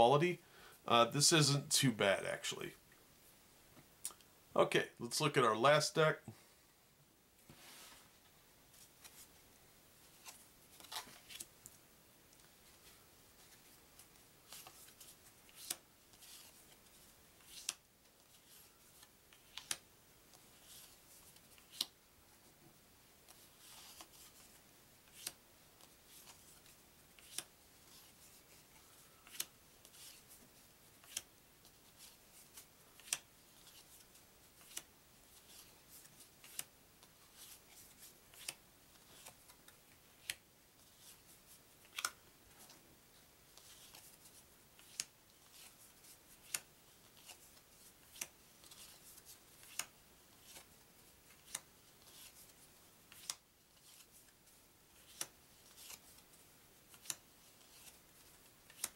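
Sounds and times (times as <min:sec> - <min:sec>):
cards sliding and rustling: 0:07.4 - 0:09.4, 0:10.0 - 0:11.8, 0:12.5 - 0:22.0, 0:23.3 - 0:42.8, 0:43.5 - 0:58.9.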